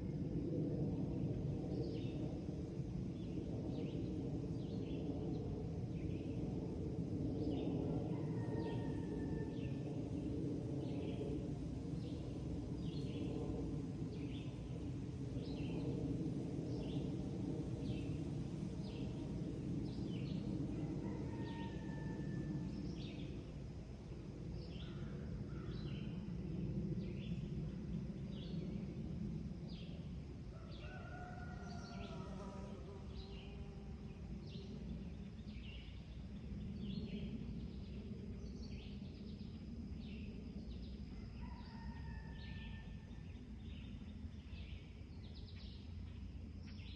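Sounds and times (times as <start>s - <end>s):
steady low rumble: 0.0s - 30.6s, 33.6s - 41.4s.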